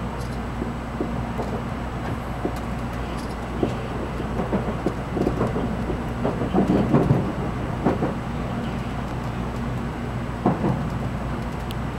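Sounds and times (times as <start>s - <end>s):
train low rumble: 0.0s - 11.9s.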